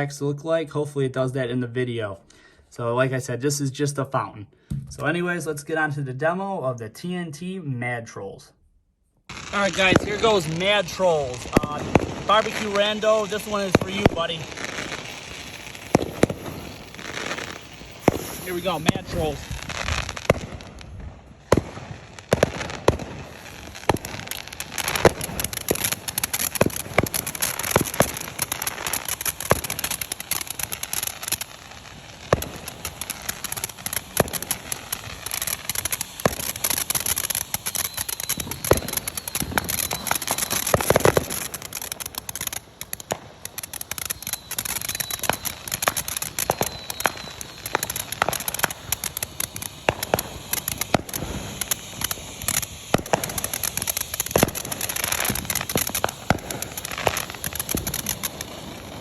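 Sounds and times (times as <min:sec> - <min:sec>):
crackling pops: 0:09.2 - 0:59.0
firework fountain hissing: 0:09.3 - 0:59.0.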